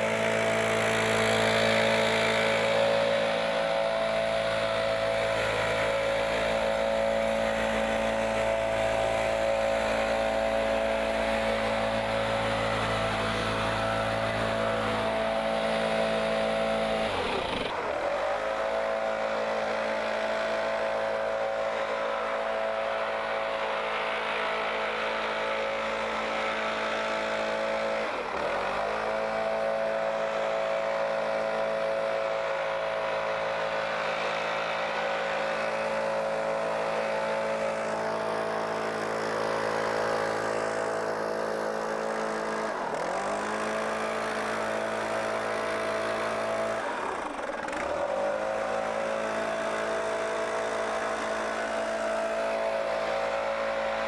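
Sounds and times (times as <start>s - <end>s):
leaf blower engine running: 0.0s - 54.0s.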